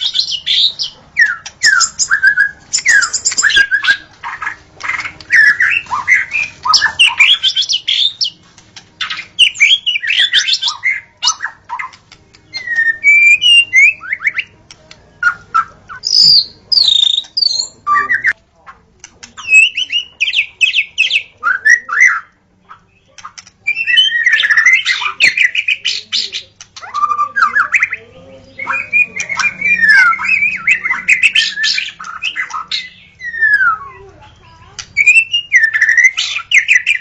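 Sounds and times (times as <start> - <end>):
bird singing whistled phrases: 0.0 - 8.4, 9.0 - 14.5, 15.2 - 18.4, 19.4 - 34.1, 35.0 - 37.0.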